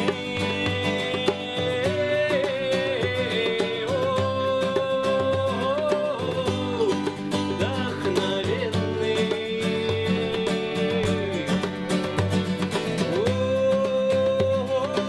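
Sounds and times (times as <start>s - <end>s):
frame drum beat: 0.0s - 15.0s
strummed acoustic guitar: 0.0s - 15.0s.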